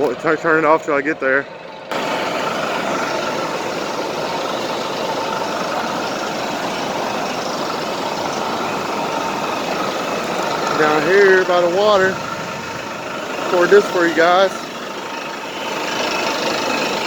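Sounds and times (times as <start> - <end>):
waterfall roaring: 1.9 - 17.0.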